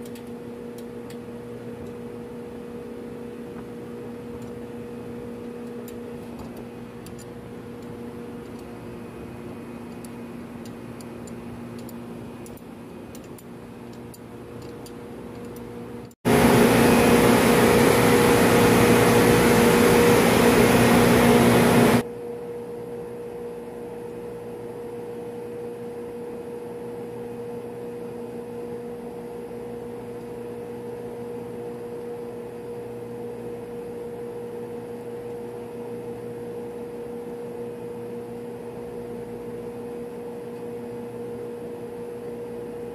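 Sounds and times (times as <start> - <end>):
machinery hum: 0.0 - 42.9.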